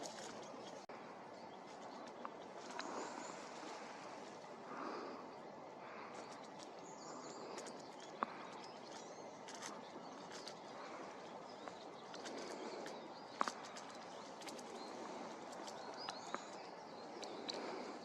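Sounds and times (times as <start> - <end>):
outdoor background hiss: 0.0 - 18.0
small birds chirping: 0.0 - 18.0.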